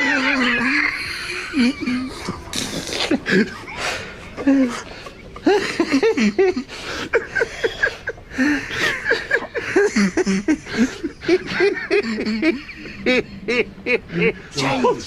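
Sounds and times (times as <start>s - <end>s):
high wheezing laugh: 0.0s - 14.6s
men laughing hard: 0.0s - 14.6s.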